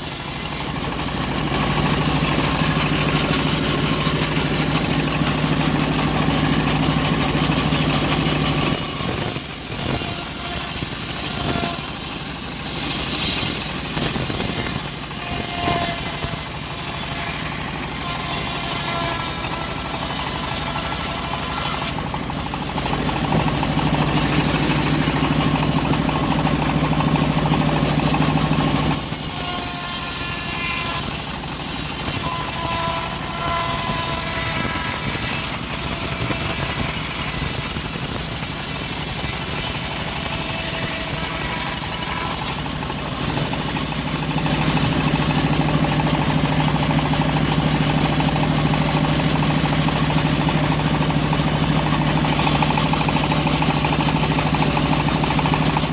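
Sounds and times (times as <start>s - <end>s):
sawmill engine deep hum: 0.0s - 55.9s.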